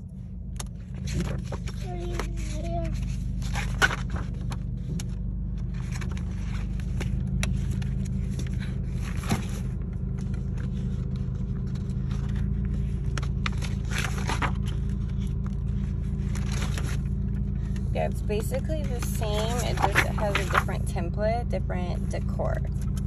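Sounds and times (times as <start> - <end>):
low hum: 0.0 - 23.0
paper pages turning: 0.6 - 17.8, 18.8 - 20.8.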